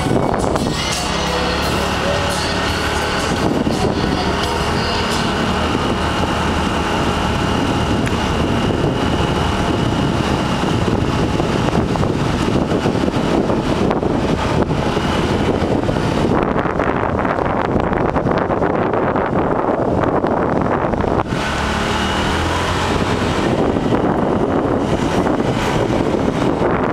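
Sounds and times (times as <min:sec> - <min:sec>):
road and engine noise: 0:00.0 - 0:26.9
wind rushing over microphone: 0:00.0 - 0:26.9.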